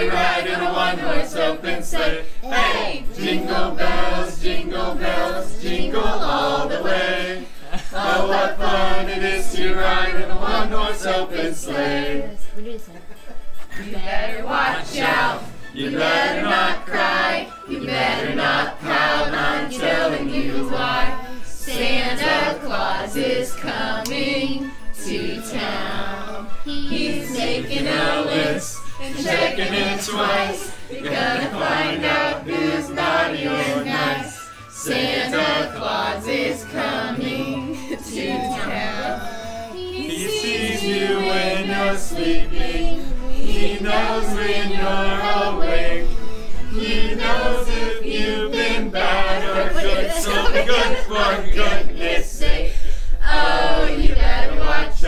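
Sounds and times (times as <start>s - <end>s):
carolers singing together: 0.0s - 55.0s.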